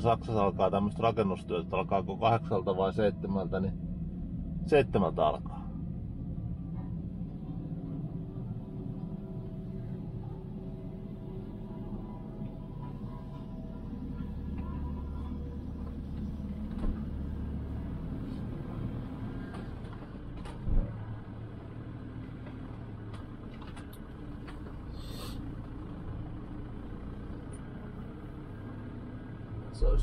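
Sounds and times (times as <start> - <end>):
motorhome engine rumble: 0.0 - 30.0.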